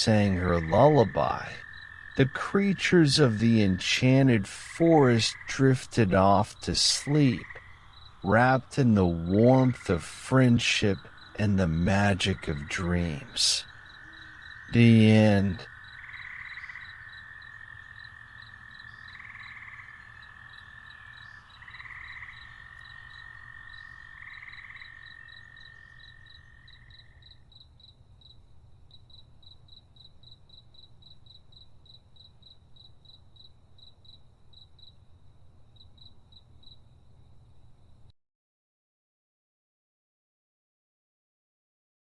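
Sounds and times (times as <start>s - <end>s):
frogs trilling: 0.0s - 35.0s
crickets chirping: 0.0s - 38.1s.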